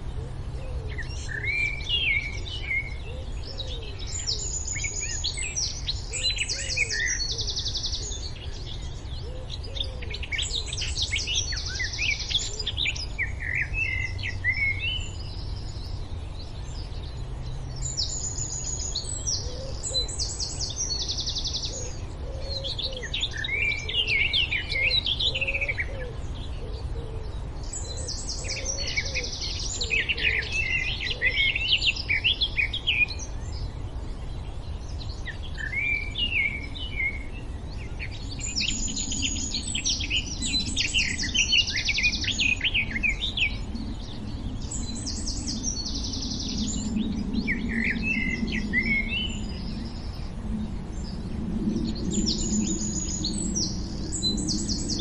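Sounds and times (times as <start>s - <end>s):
birds chirping and trilling: 0.0s - 55.0s
low background noise: 0.0s - 55.0s.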